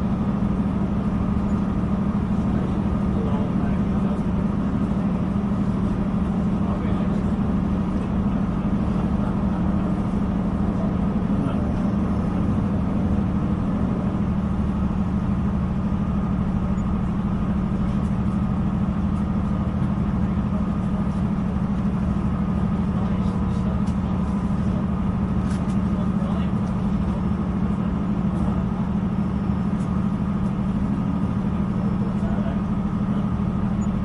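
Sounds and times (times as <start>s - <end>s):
train carriage drone: 0.0s - 34.0s.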